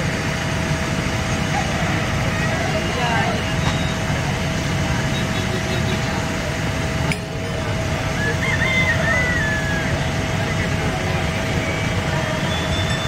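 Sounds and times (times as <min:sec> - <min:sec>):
diesel engine running: 0:00.0 - 0:13.0
outdoor noise: 0:00.0 - 0:13.0.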